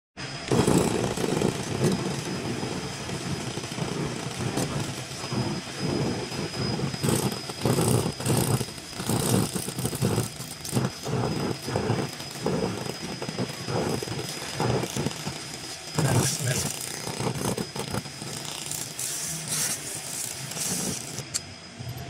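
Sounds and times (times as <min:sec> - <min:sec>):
high whine: 0:00.2 - 0:22.0
laser cleaner crackling on metal: 0:00.3 - 0:21.5.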